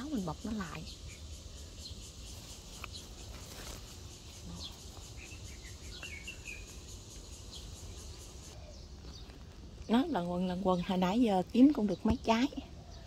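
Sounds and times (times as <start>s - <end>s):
faint outdoor background noise: 0.0s - 13.0s
small birds chirping: 0.0s - 13.0s.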